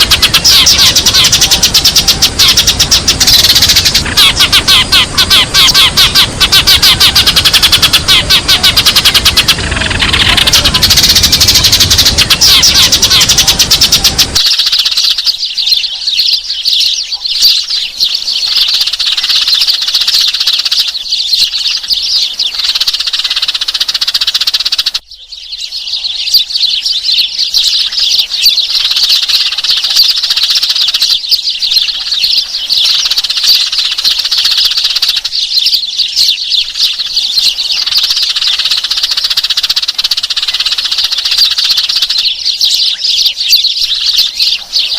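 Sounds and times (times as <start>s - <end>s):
sparrows chirping: 0.0s - 44.9s.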